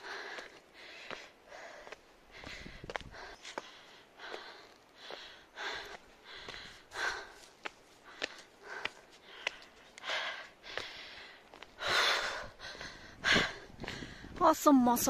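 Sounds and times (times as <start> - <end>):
person breathing hard: 0.0 - 14.4.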